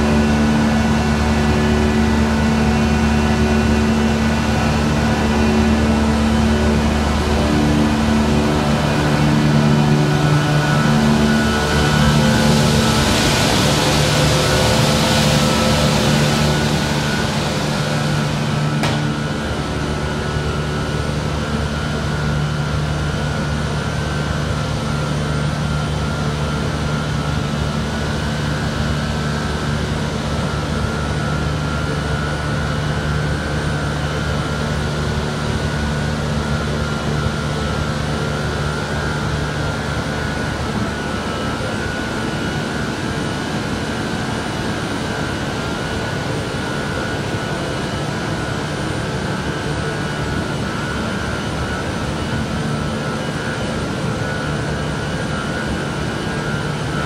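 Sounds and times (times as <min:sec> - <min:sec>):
cooling fans rushing: 0:00.0 - 0:57.0.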